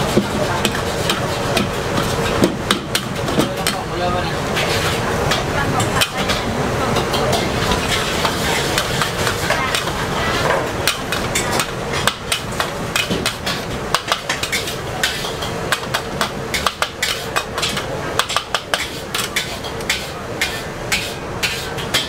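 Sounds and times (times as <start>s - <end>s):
kitchen background noise: 0.0s - 22.0s
metal spatula scraping wok: 0.0s - 22.0s.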